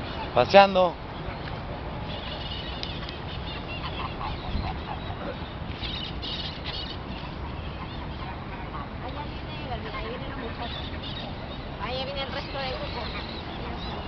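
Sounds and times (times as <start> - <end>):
geese honking: 0.0 - 14.0.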